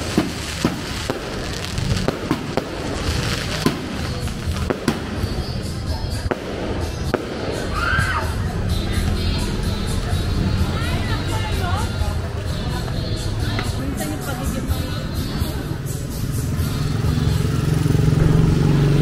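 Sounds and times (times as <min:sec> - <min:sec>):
music with heavy bass: 0:00.0 - 0:19.0.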